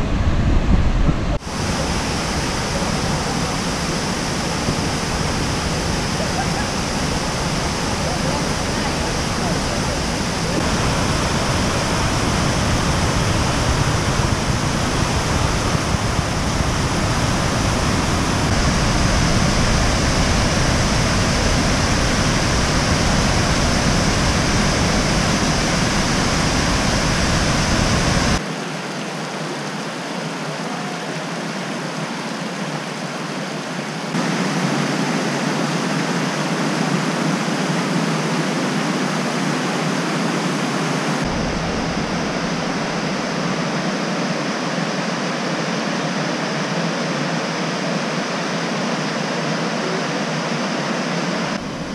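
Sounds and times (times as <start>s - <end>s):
waterfall rushing roar: 0.0s - 51.9s.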